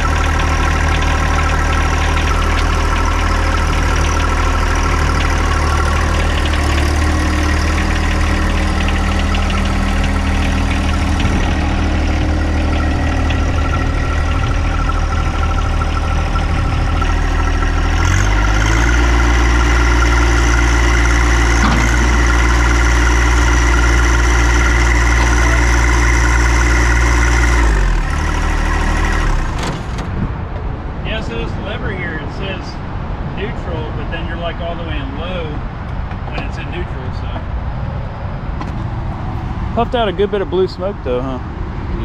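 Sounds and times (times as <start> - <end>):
diesel engine idling and revving: 0.0 - 42.0.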